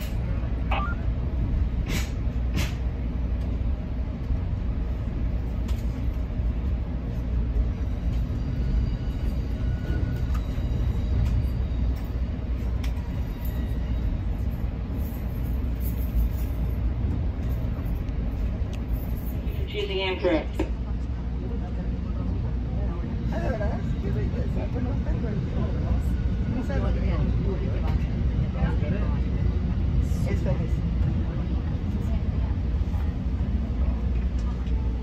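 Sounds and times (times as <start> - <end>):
passenger train rumbling: 0.0 - 35.0.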